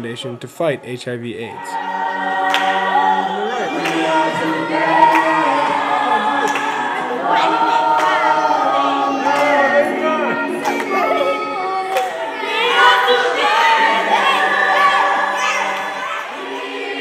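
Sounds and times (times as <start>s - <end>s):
children's choir singing: 1.4s - 17.0s.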